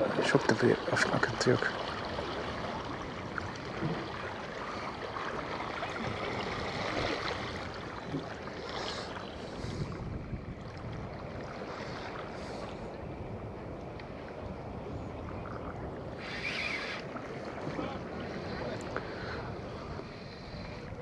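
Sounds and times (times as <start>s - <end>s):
wind on microphone: 1.8s - 21.0s.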